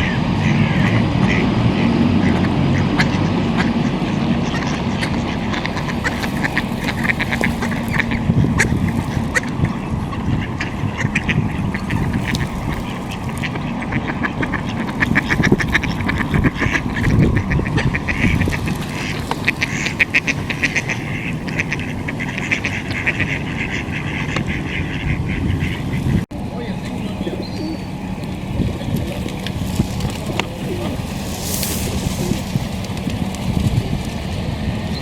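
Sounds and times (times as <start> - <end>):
ducks quacking: 0.0 - 35.0
low background rumble: 0.0 - 35.0.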